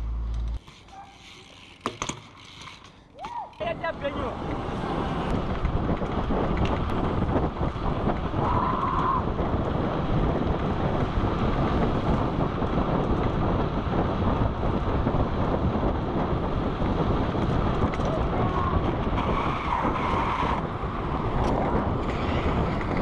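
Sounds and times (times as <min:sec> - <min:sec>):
tyres on pavement: 0:00.0 - 0:23.0
wind buffeting microphone: 0:03.6 - 0:23.0.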